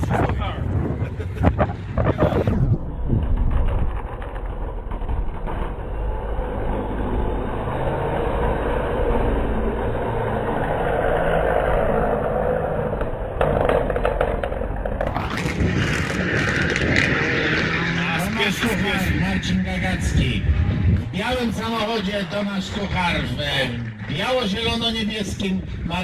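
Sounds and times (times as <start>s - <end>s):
truck engine rumble: 0.0s - 26.0s.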